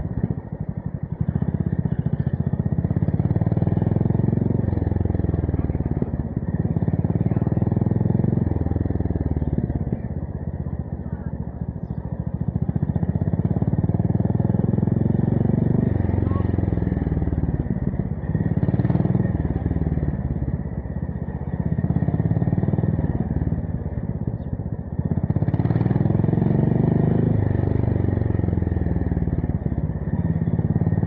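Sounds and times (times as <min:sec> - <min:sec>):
motorcycle engine exhaust pulses: 0:00.0 - 0:31.0.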